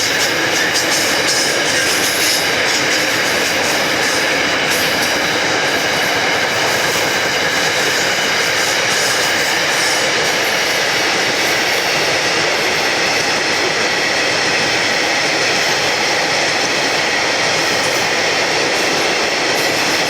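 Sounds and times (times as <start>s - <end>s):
train wheels rushing on rail: 0.0s - 20.0s.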